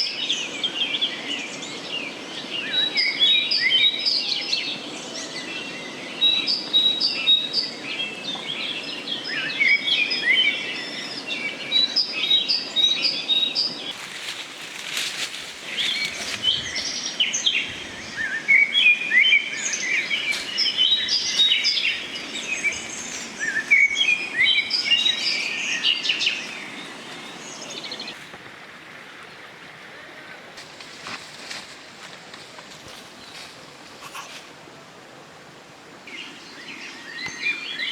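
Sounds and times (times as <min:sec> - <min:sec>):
wild birds chirping: 0:00.0 - 0:28.2, 0:32.8 - 0:34.8, 0:35.7 - 0:37.9.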